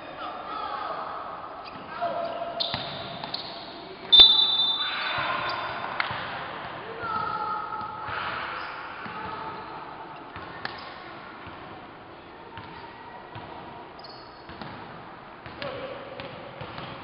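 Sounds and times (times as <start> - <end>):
gym hall background noise: 0.0 - 17.0.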